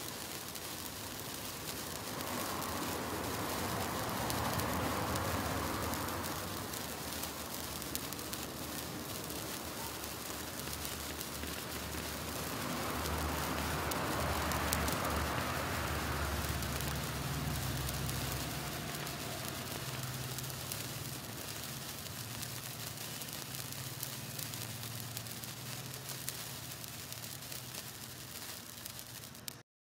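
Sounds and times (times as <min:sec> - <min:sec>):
sparkler fizzing and crackling: 0:00.0 - 0:29.6.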